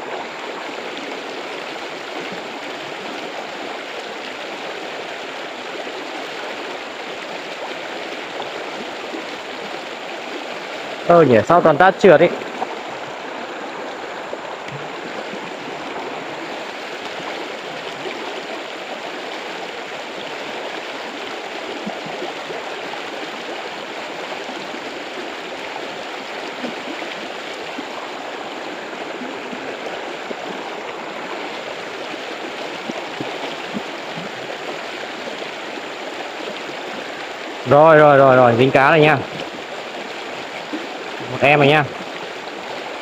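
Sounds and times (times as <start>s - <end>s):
stream rushing over rocks: 0.0s - 43.0s.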